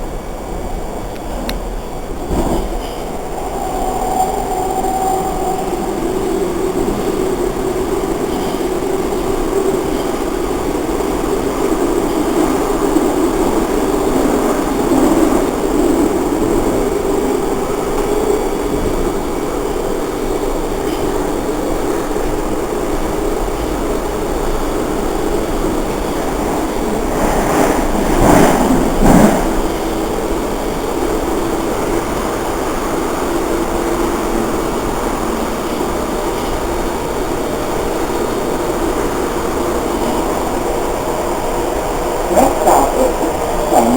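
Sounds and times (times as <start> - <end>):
subway wheels rumbling on rail: 0.0 - 43.9.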